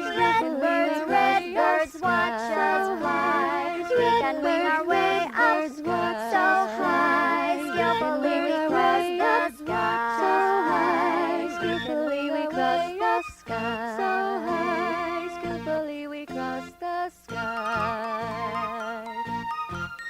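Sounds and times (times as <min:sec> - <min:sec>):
voices singing in harmony: 0:00.0 - 0:19.3.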